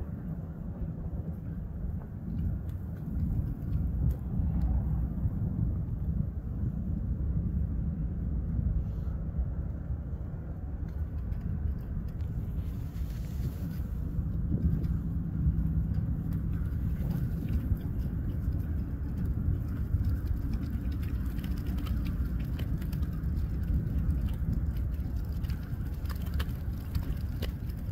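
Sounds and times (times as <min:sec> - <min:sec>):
low rumble: 0:00.0 - 0:27.9
wind buffeting microphone: 0:00.0 - 0:27.9.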